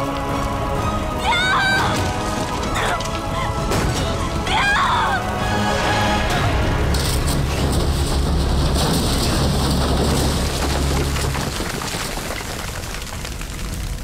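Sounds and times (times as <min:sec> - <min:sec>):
fire crackling: 0:00.0 - 0:14.0
low fire rumble: 0:00.0 - 0:14.0.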